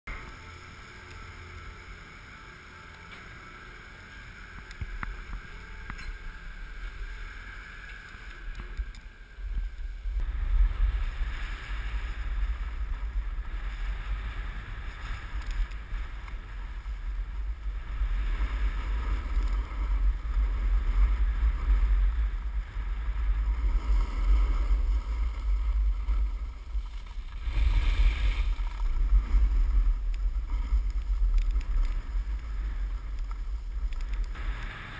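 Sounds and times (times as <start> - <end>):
snowboard sliding over snow: 0.1 - 34.9
wind buffeting microphone: 4.4 - 34.9.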